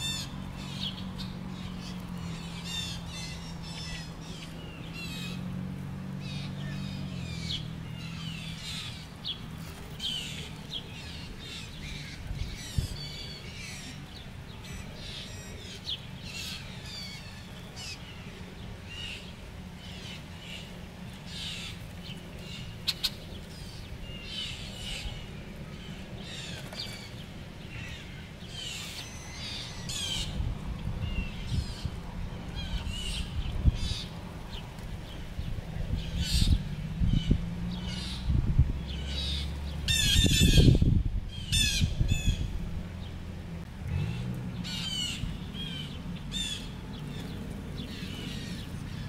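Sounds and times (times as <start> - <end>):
blue jays calling: 0.0 - 43.1, 44.0 - 49.0.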